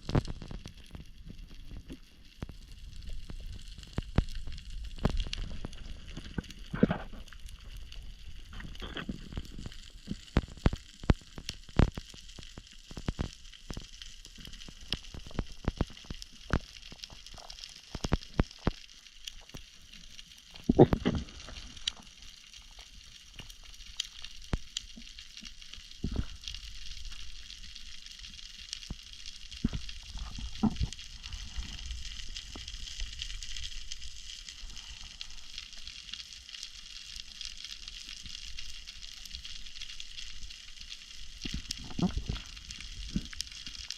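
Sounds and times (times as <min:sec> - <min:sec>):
underwater crackling: 0:00.0 - 0:43.9.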